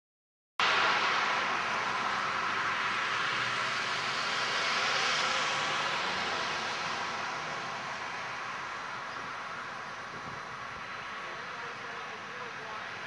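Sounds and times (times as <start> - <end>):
tyres hissing on road: 0.6 - 13.0.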